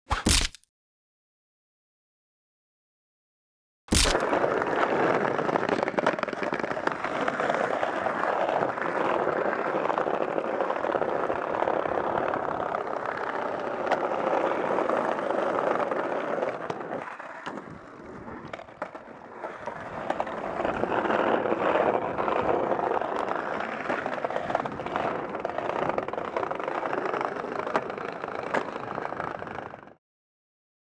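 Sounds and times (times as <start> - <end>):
skateboard wheels rolling on tiles: 3.9 - 30.0
skateboard clacking on ground: 4.1 - 30.0.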